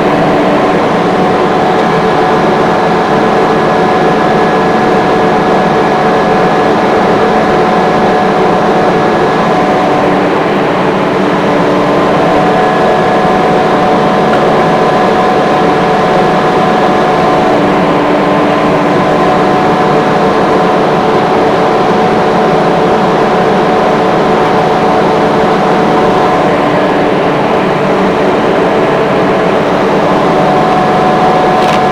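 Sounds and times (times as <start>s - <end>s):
air compressor drone: 0.0s - 31.9s
whining tones: 0.0s - 31.9s.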